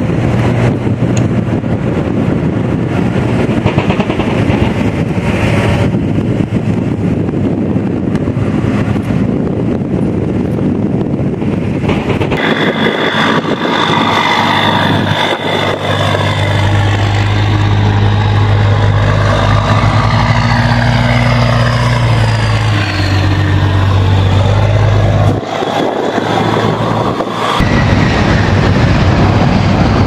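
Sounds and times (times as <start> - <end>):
diesel engines humming: 0.0 - 30.0
drivetrain whine: 0.0 - 30.0
higher whine: 4.8 - 30.0.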